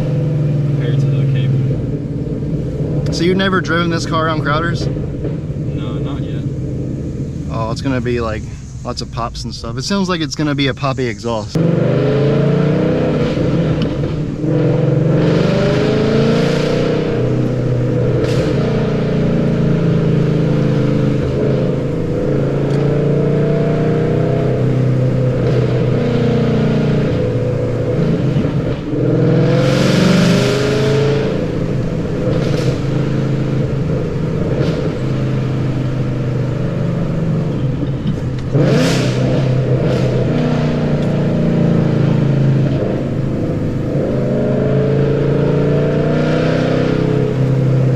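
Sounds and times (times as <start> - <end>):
car engine revving through gears: 0.0 - 47.9.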